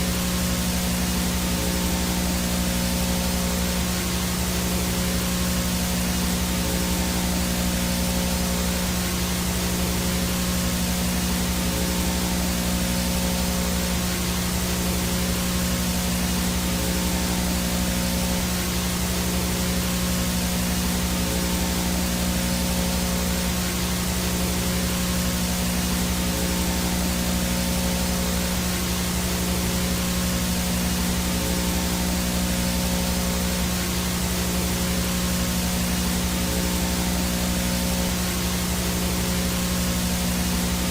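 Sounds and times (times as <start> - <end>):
low electrical buzz: 0.0 - 40.9
static hiss: 0.0 - 40.9.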